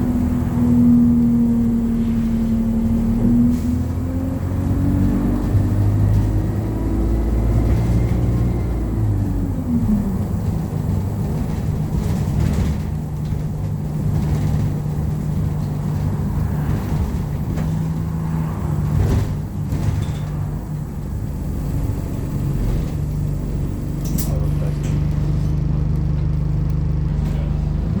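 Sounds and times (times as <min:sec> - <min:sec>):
bus diesel engine running: 0:00.0 - 0:28.0.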